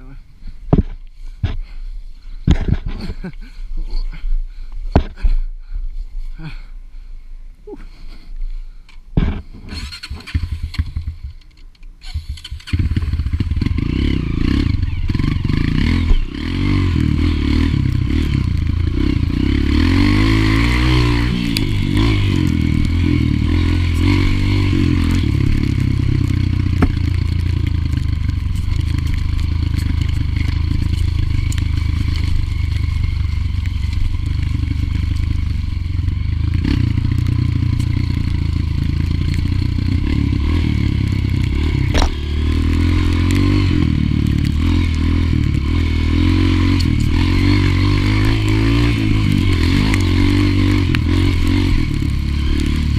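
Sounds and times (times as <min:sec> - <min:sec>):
dirt bike engine running: 0:09.2 - 0:52.9.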